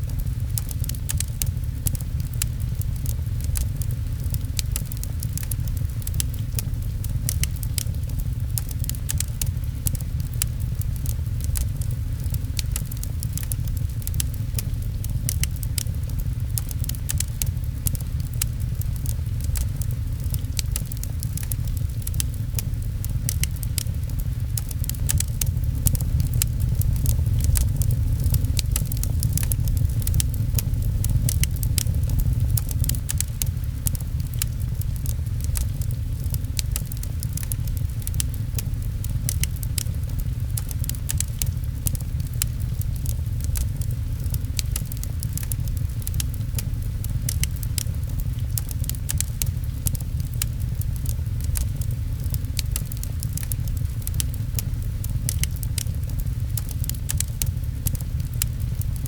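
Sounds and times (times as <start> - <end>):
rain patter: 0.0 - 59.0
steady low rumble: 0.0 - 59.0
wood fire crackling and popping: 0.0 - 59.0.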